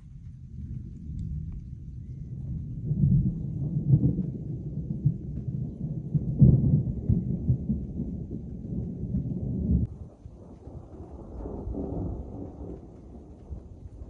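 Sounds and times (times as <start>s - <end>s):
thunder rumbling and crackling: 0.0s - 14.0s.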